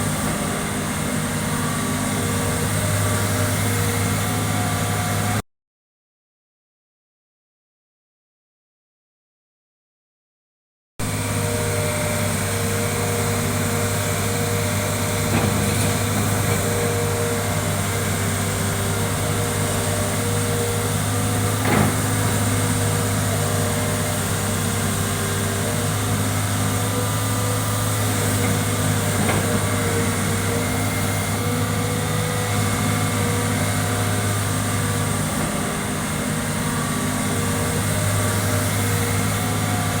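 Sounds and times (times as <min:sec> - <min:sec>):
excavator diesel engine running: 0:00.0 - 0:05.4, 0:11.0 - 0:40.0.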